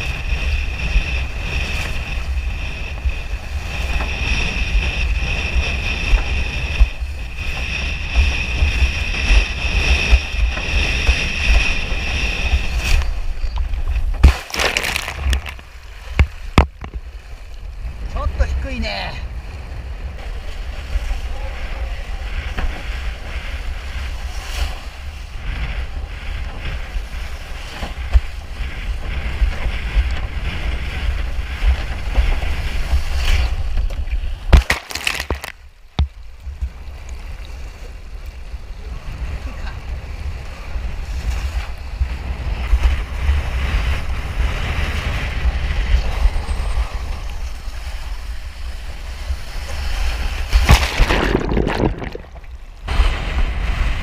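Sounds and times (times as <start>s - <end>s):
gale wind buffeting microphone: 0.0s - 54.0s
water splashing and waves: 0.0s - 54.0s.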